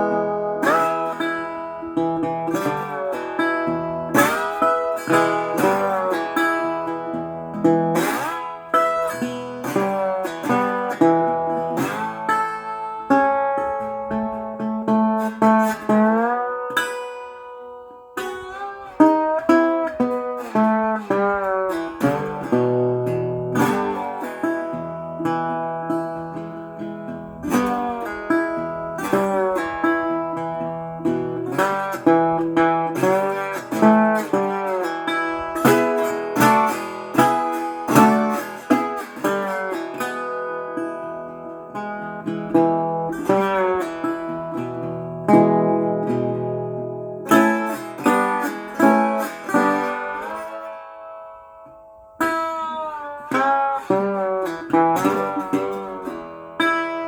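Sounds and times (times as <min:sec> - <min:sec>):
acoustic guitar picking: 0:00.0 - 0:57.0.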